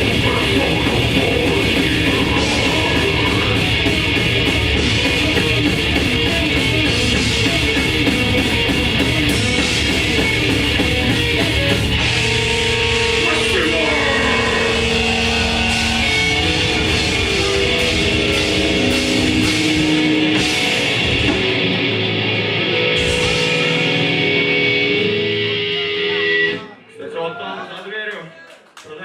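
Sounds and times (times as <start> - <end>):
bass and drums: 0.0 - 26.7
distorted electric guitars: 0.0 - 26.8.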